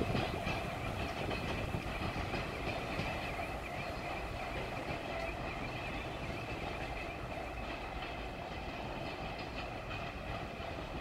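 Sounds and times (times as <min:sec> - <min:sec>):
distant train wheels on rails: 0:00.0 - 0:11.0.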